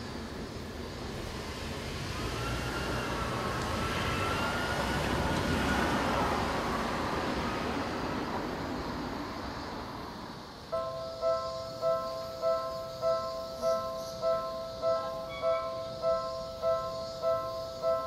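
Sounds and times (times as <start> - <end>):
minivan engine and tyre noise: 0.0 - 18.0.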